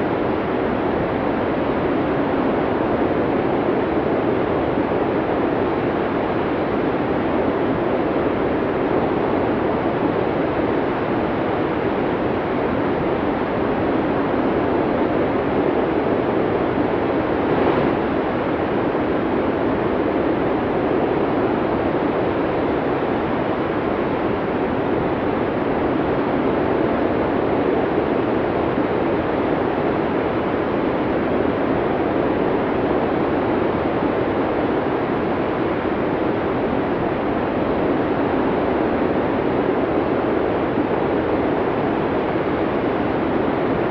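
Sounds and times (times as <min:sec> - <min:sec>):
snowstorm wind blowing: 0:00.0 - 0:43.9.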